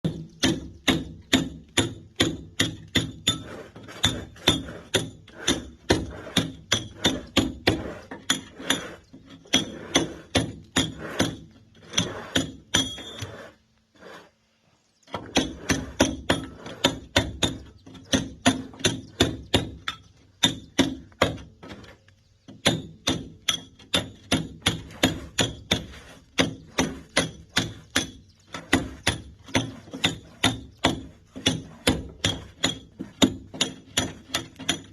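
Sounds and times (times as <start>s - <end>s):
hammer striking steel chisel: 0.1s - 13.4s, 15.1s - 21.4s, 22.6s - 34.9s.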